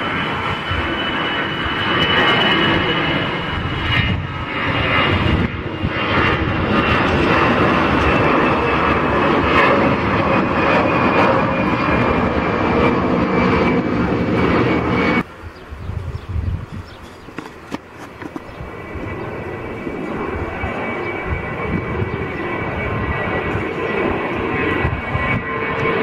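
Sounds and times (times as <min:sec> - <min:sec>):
jet engine noise with fan whine: 0:00.0 - 0:26.0.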